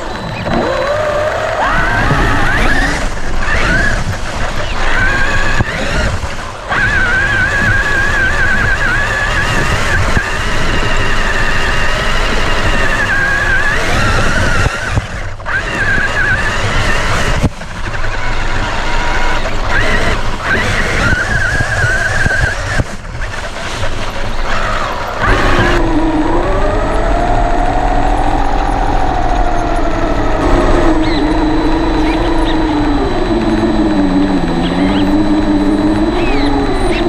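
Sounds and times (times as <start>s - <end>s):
electric motor whining: 0.0s - 37.0s
tyres rumbling over terrain: 0.0s - 37.0s.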